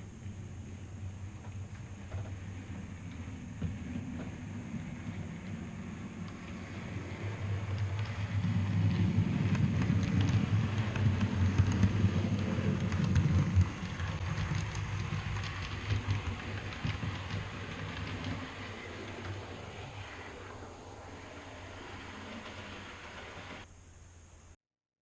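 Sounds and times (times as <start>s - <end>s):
train rumble: 0.0s - 23.7s
wheels clicking over rail joints: 0.8s - 23.7s.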